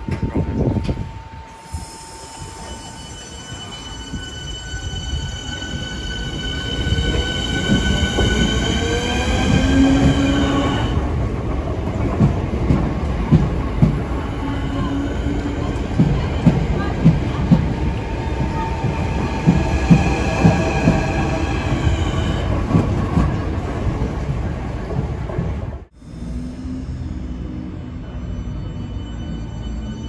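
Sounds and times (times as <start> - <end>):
train wheel rumble: 0.0 - 28.2.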